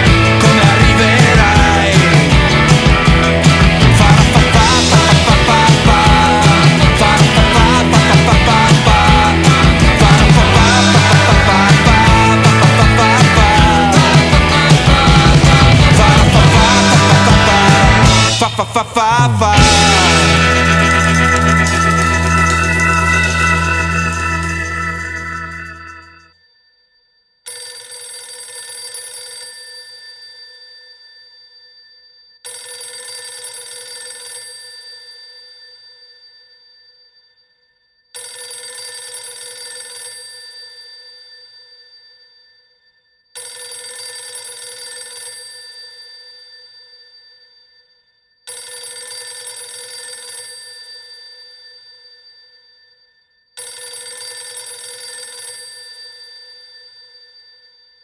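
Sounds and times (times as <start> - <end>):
old telephone bell ringing: 0.0 - 58.0.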